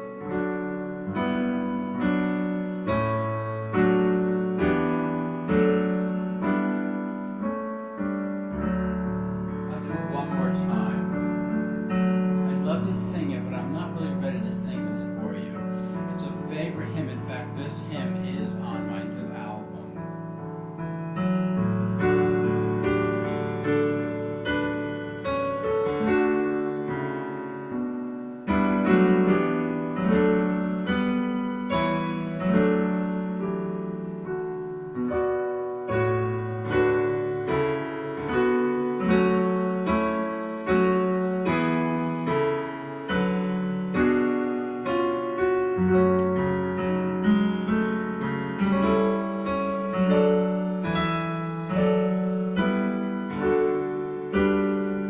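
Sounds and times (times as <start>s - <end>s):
hymn on digital piano: 0.0s - 55.0s.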